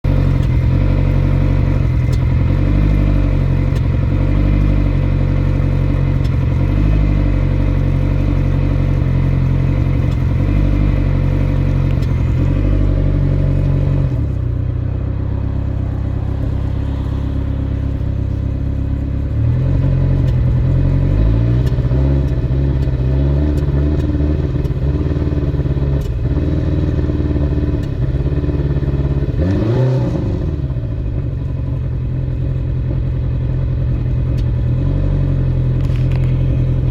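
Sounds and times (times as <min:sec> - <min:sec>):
engine running unevenly and revving: 0:00.0 - 0:36.9.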